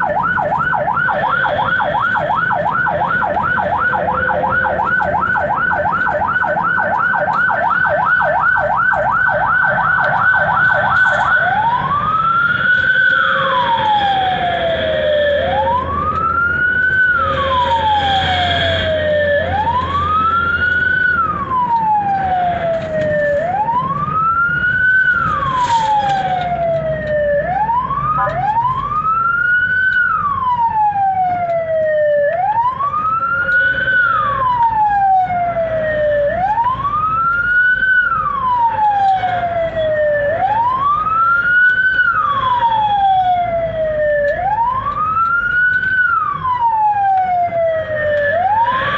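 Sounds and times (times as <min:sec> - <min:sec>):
ambulance siren: 0:00.0 - 0:48.9.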